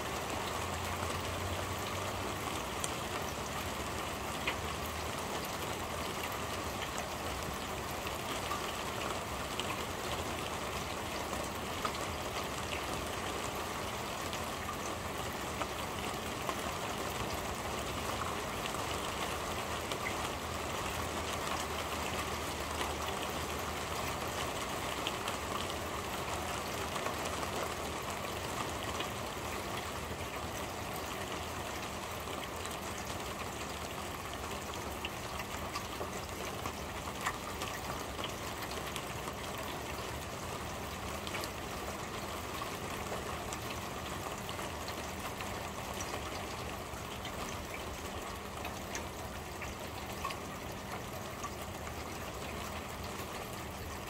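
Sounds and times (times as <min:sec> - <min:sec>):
rain on a corrugated roof: 0:00.0 - 0:54.0.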